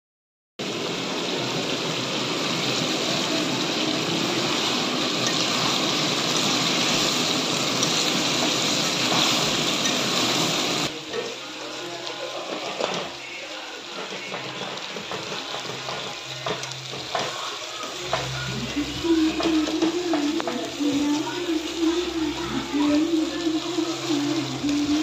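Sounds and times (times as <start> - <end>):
curry sizzling in a pan: 0.6 - 25.0.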